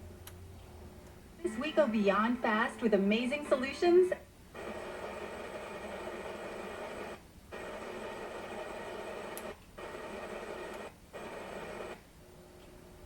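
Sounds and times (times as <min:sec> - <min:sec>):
radio static hiss: 0:01.4 - 0:12.0.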